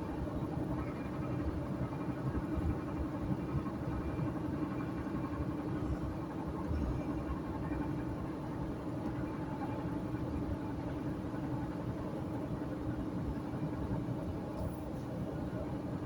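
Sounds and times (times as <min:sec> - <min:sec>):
car engine drone: 0:00.0 - 0:16.0
road and tyre rumble: 0:00.0 - 0:16.0.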